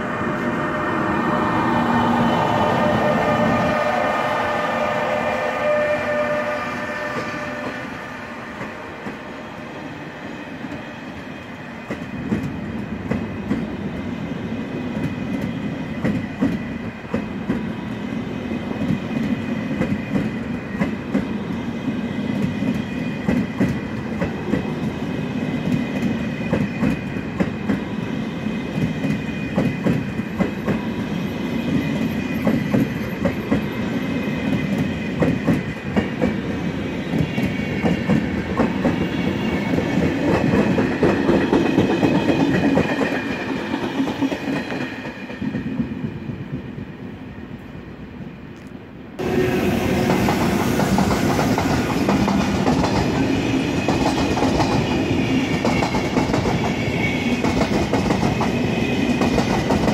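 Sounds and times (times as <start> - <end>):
train coaches rumbling past: 0.0 - 59.9.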